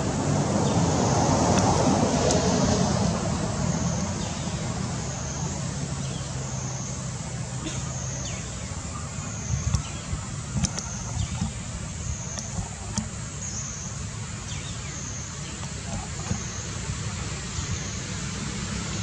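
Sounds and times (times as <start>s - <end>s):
vehicle engine hum and road noise: 0.0s - 19.0s.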